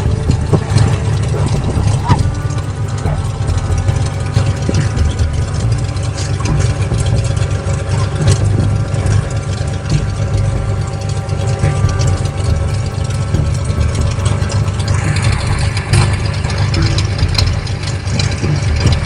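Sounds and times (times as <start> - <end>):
aircraft engine idling: 0.0 - 19.0
steady engine whine: 0.0 - 19.0.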